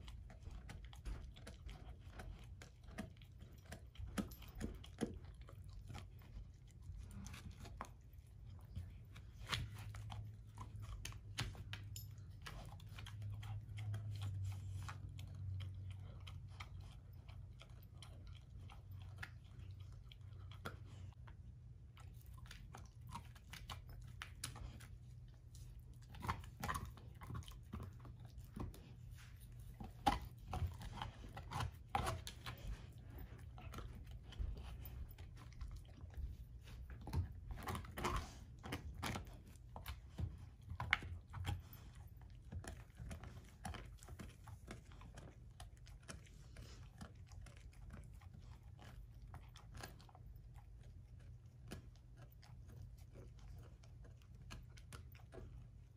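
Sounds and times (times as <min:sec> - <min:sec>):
dog gnawing and crunching bone: 0:00.0 - 0:55.9.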